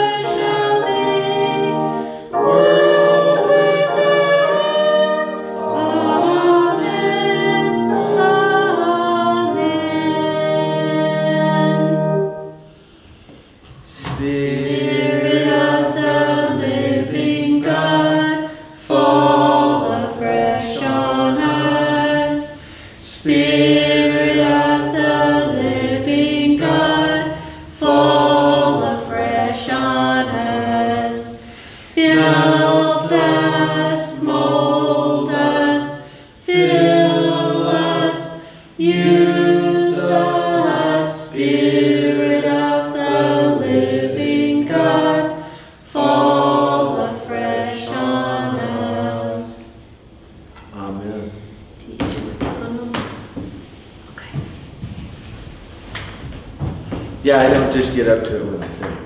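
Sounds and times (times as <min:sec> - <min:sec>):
group singing a hymn: 0:00.0 - 0:50.0.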